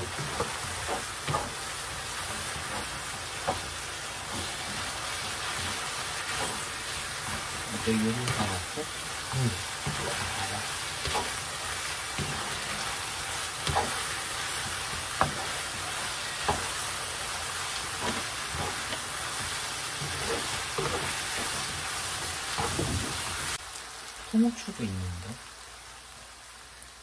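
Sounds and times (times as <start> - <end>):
spatula stirring food: 0.0 - 23.6
food sizzling in a frying pan: 0.0 - 27.0.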